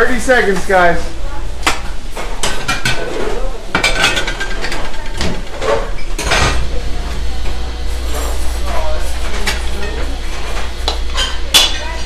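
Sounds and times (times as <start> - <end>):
steady low hum: 0.0 - 12.0
pans plates and utensils clanking: 1.6 - 12.0.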